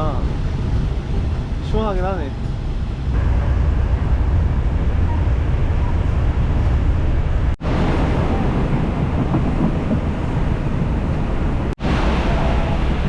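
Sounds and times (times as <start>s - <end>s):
moving train running noise: 0.0s - 13.0s
wind buffeting microphone: 0.0s - 13.0s.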